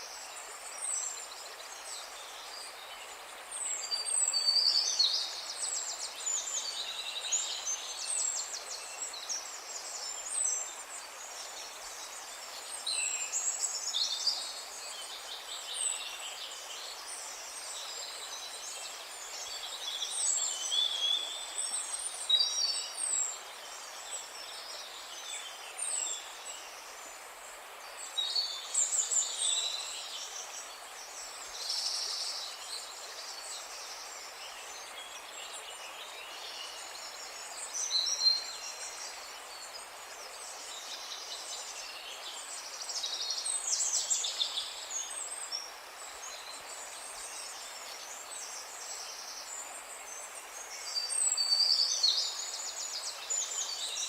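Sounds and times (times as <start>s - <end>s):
faint background hiss: 0.0s - 54.0s.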